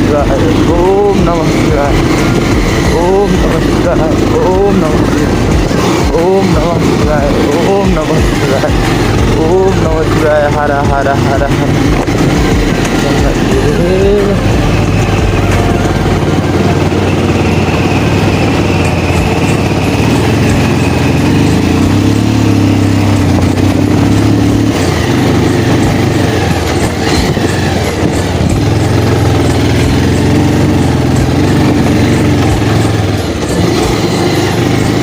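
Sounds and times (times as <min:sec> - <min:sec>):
broad rumble: 0:00.0 - 0:35.0
motorcycle engine running: 0:00.0 - 0:35.0.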